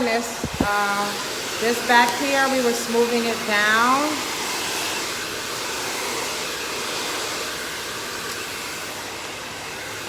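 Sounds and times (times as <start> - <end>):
blow dryer running: 0.0 - 10.0.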